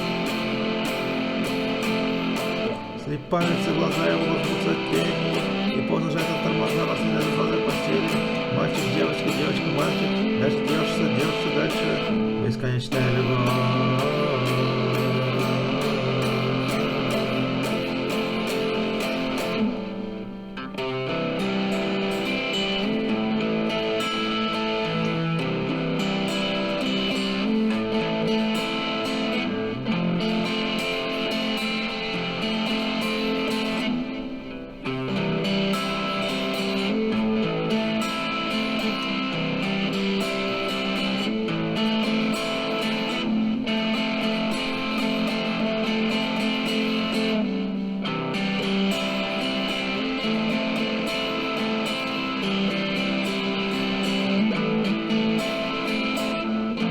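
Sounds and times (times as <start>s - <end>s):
electric guitar: 0.0s - 56.9s
instrumental rock music: 0.0s - 56.9s.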